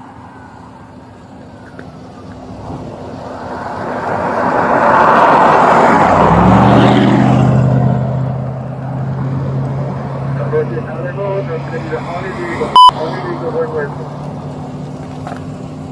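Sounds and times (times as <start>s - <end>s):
low engine hum: 0.0s - 15.9s.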